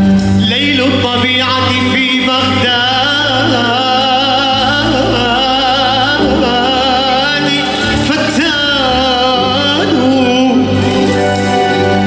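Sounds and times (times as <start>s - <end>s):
instrumental accompaniment: 0.0s - 12.0s
man singing with vibrato: 0.0s - 12.0s.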